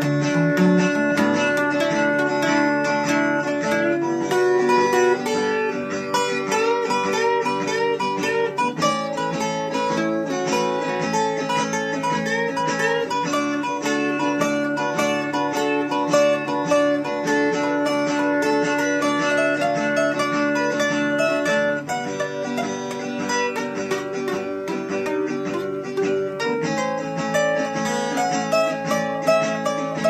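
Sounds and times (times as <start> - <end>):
acoustic guitar picking: 0.0 - 30.0.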